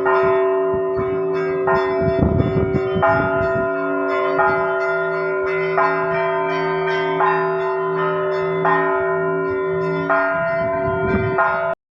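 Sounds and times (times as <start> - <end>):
church bells ringing: 0.0 - 11.8
deep hum of large bells: 0.0 - 11.8.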